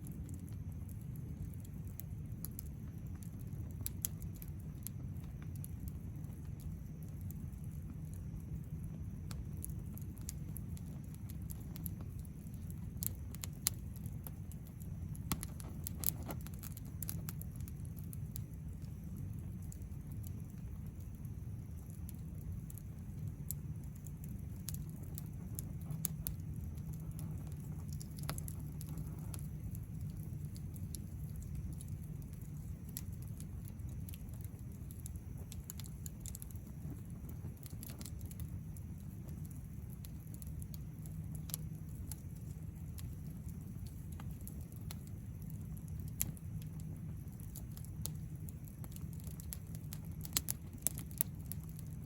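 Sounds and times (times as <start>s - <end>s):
low steady rumble: 0.0s - 52.0s
wood fire crackling: 0.0s - 52.0s.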